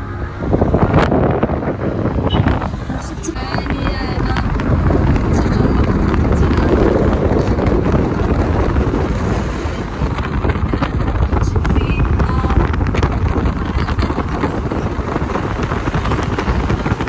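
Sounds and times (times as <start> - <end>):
car engine: 0.0 - 17.0
road noise: 0.0 - 17.0
wind buffeting microphone: 0.0 - 17.0.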